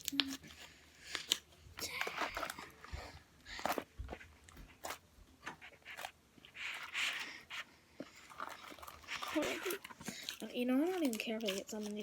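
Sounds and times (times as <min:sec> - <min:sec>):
rustling squish of slime: 0:00.0 - 0:12.0
slime squelching by hand: 0:00.0 - 0:12.0.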